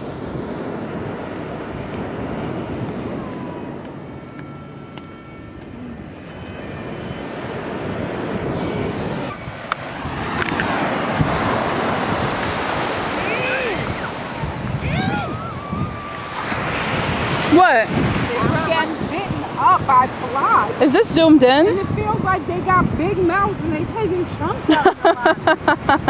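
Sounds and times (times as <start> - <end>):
ocean surf: 0.0 - 26.0
wind: 0.0 - 26.0
wind rumbling on microphone: 0.0 - 26.0.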